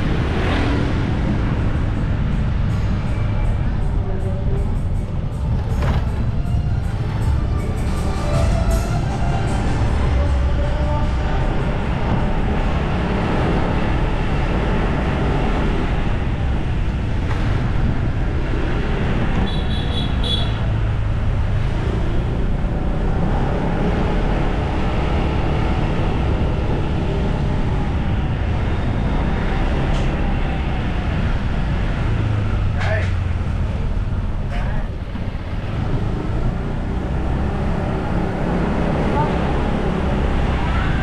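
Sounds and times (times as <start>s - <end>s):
road and engine noise: 0.0s - 41.0s.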